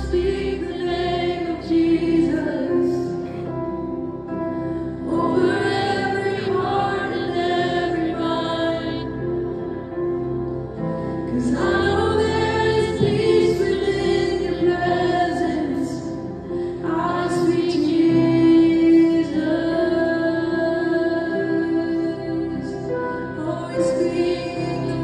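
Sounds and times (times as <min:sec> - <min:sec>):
keyboard: 0:00.0 - 0:25.0.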